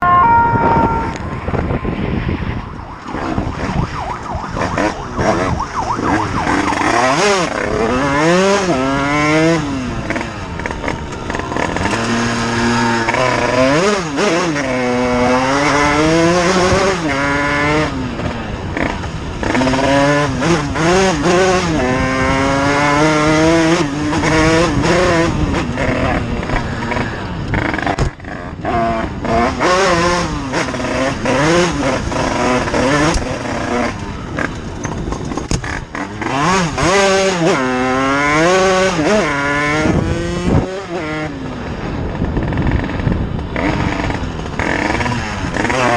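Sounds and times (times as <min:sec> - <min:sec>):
motorbike engine revving: 0:00.0 - 0:45.9
wind and road noise: 0:00.0 - 0:45.9.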